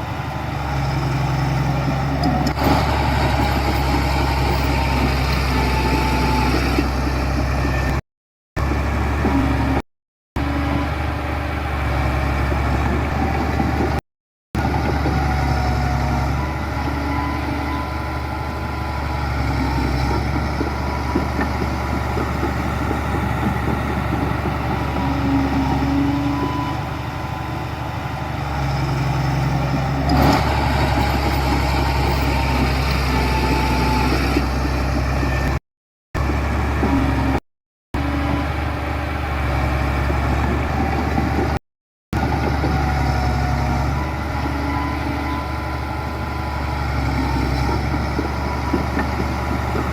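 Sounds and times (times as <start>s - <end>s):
heavy diesel engines running: 0.0s - 8.0s, 10.4s - 14.0s, 14.6s - 35.6s, 36.2s - 37.4s, 38.0s - 41.6s, 42.2s - 49.9s.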